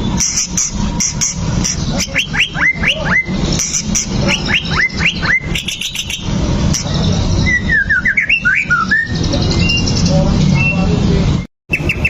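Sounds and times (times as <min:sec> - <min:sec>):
songbird whistling and chattering: 0:00.0 - 0:11.0, 0:11.7 - 0:12.0.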